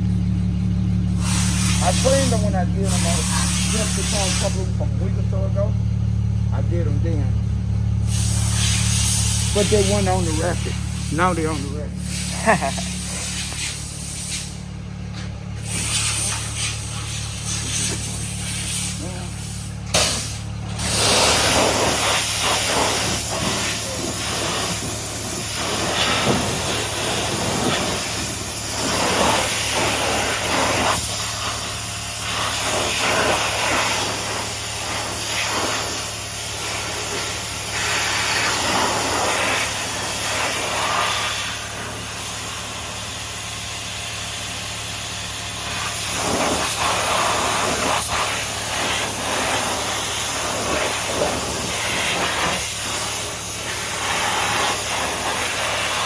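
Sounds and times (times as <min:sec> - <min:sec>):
car engine idling: 0:00.0 - 0:56.0
sprayer hissing: 0:00.0 - 0:56.0.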